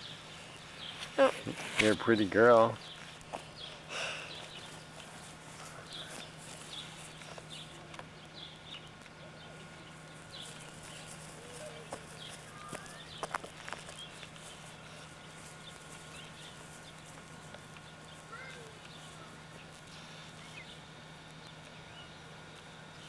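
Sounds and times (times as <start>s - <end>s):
birds chirping: 0.0s - 23.0s
steady low hum: 0.0s - 23.0s.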